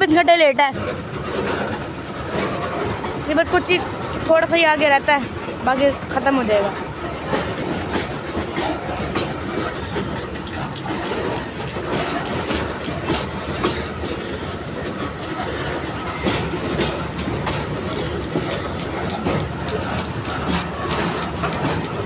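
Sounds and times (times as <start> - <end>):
steel wheels rumbling on rail: 0.0 - 22.0
wheels clicking over rail joints: 0.0 - 22.0.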